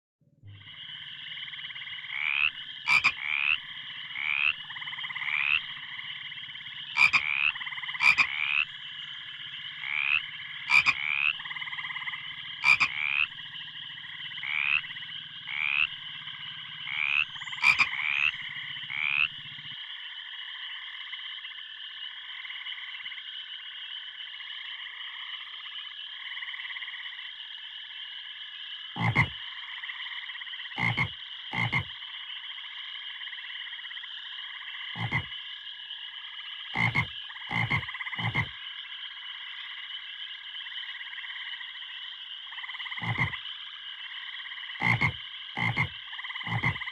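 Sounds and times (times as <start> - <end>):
frogs trilling: 0.5 - 46.9
short rising frog calls: 0.5 - 46.9.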